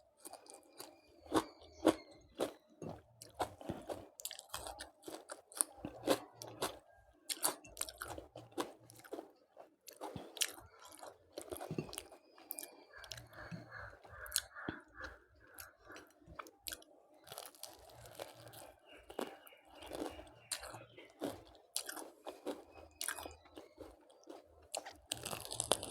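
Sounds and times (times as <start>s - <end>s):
chewing crunchy food: 0.0s - 25.9s.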